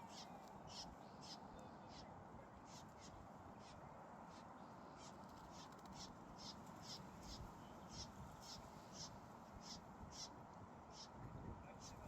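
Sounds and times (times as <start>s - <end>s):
low outdoor hiss: 0.0s - 12.0s.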